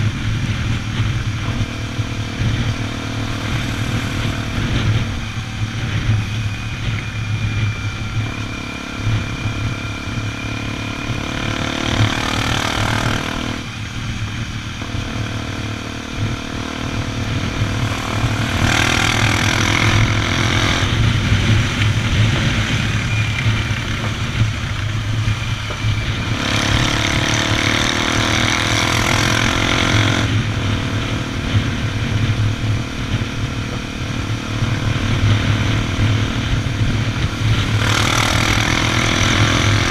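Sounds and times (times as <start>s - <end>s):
broad rushing noise: 0.0s - 39.9s
motorcycle engine running: 0.0s - 39.9s.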